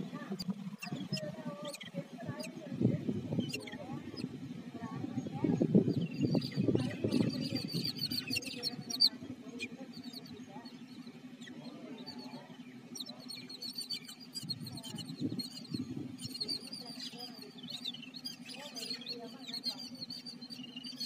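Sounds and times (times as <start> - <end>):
birds chattering: 0.0 - 21.0
low steady hum: 0.0 - 21.0.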